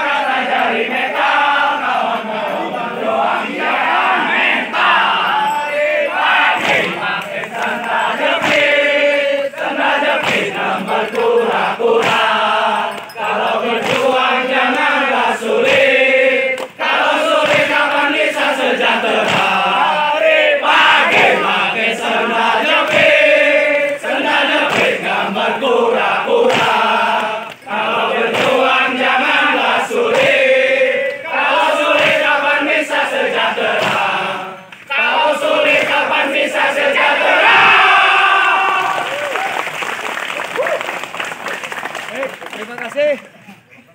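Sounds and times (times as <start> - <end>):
group chanting a cheer: 0.0 - 39.7.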